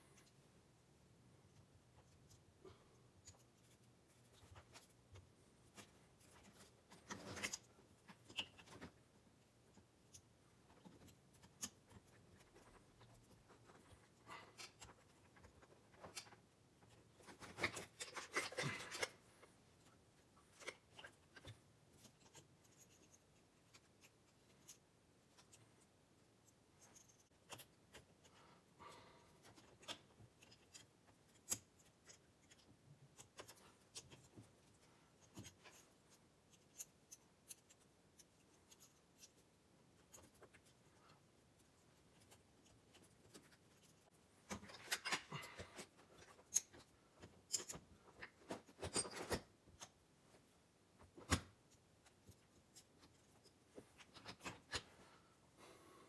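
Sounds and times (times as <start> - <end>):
hands handling small parts: 1.4 - 55.1.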